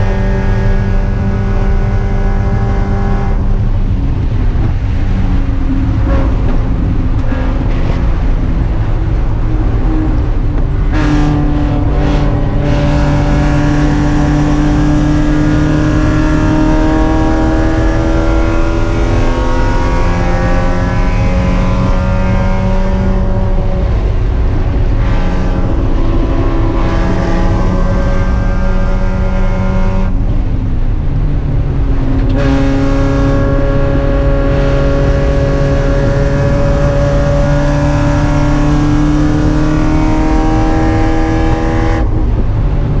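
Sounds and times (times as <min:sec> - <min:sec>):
racing car engine running hard: 0:00.0 - 0:43.0.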